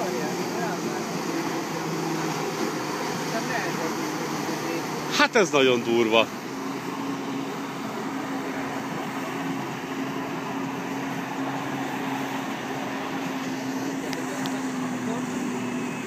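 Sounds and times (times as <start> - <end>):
watercraft engine drone: 0.0 - 16.0.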